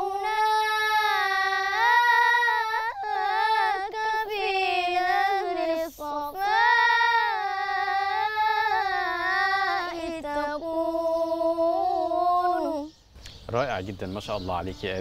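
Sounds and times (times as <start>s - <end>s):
boy singing unaccompanied: 0.0s - 13.1s.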